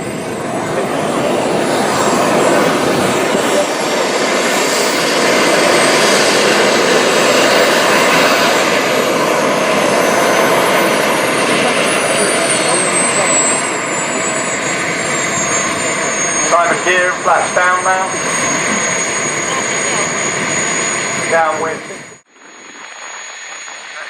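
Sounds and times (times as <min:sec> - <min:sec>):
high whine sliding down: 0:00.0 - 0:24.0
model jet turbine rushing: 0:00.0 - 0:24.0.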